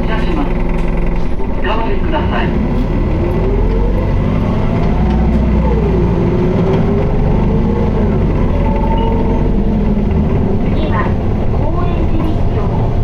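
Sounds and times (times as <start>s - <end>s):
bus diesel engine rumble: 0.0s - 13.0s
bus gearbox whine: 0.0s - 13.0s.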